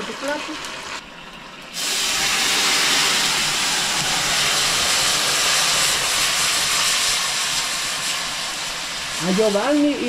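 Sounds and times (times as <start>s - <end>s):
pan sizzling hiss: 1.7s - 10.0s.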